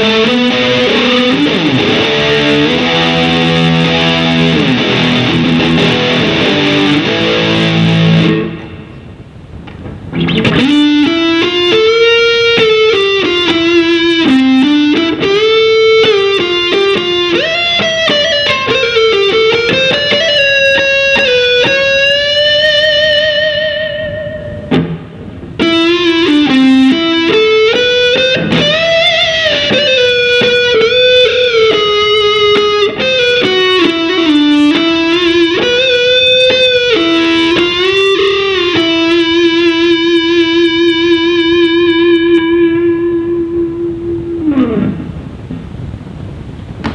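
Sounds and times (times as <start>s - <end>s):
electric guitar playing: 0.0s - 46.9s.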